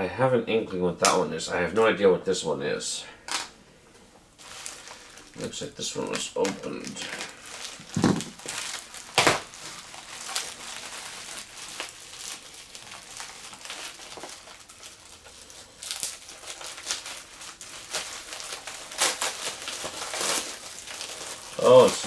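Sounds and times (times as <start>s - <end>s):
packaging crinkling and rustling: 3.3s - 3.6s, 4.3s - 22.0s.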